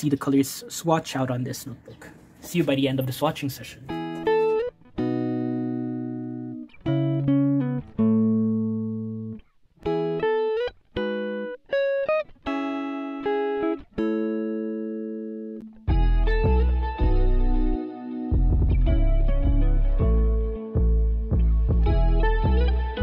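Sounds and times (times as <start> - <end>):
plucked instrumental music: 3.8 - 23.0.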